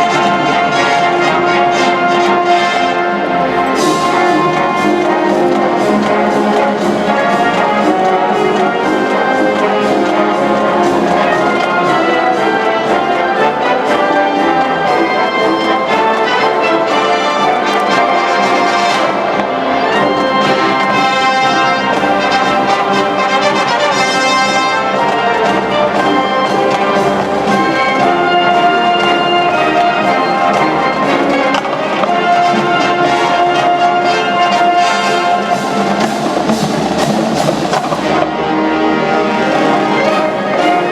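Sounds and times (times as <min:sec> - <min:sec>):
wind band brass playing: 0:00.0 - 0:40.9.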